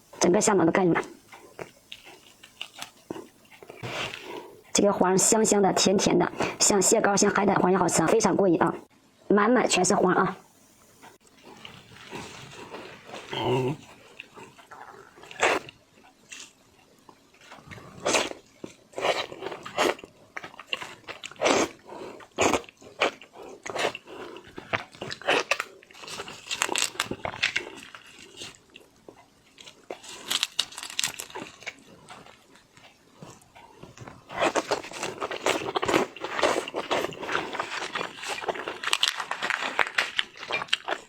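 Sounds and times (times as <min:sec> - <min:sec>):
mouth chewing shrimp: 0:01.0 - 0:04.6, 0:11.3 - 0:41.0.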